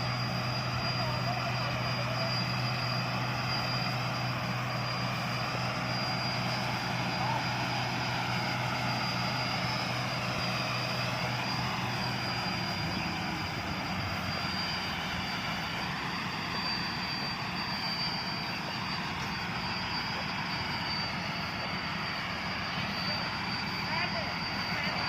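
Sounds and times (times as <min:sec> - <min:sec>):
combine harvester droning: 0:00.0 - 0:25.0
low hum: 0:00.0 - 0:25.0.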